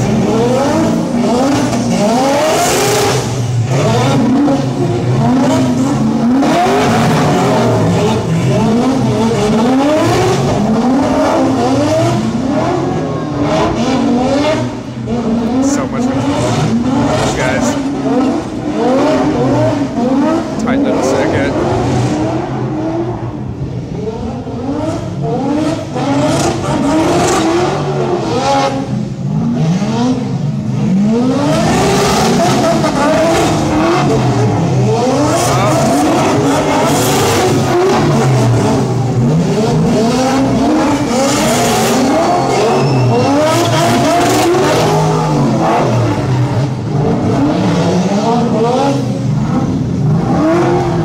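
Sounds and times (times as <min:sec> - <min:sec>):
car engines revving hard: 0:00.0 - 0:51.0.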